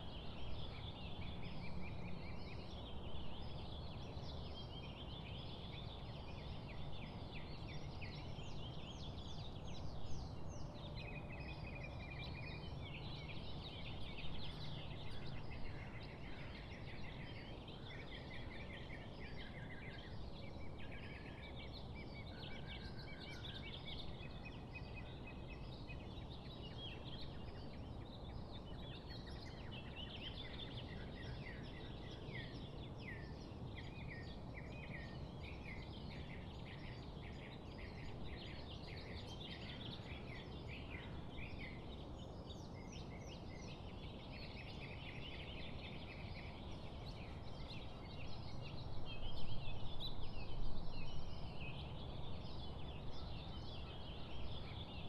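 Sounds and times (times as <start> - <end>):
low rumble of breeze: 0.0 - 55.0
small birds chirping: 0.0 - 55.0.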